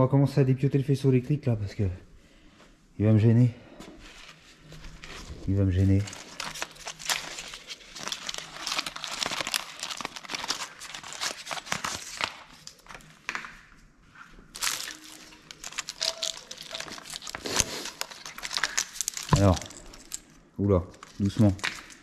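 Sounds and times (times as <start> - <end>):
wires and plastic conduit rustling: 3.8 - 22.0.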